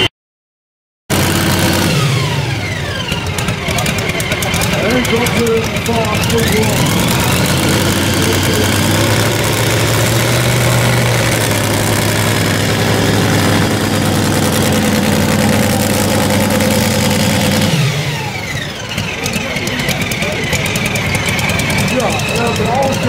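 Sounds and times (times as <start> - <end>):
tractor engine at high revs: 1.1 - 23.0.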